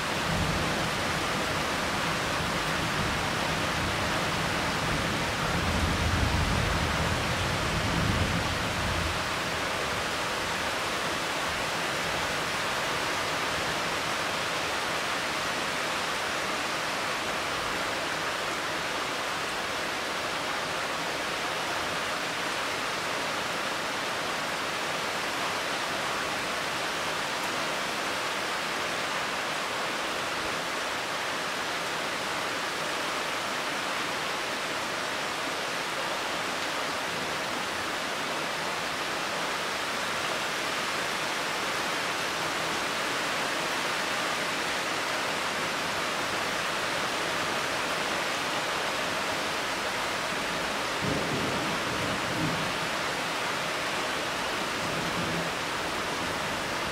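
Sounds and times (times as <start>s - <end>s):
rain on leaves: 0.0s - 56.9s.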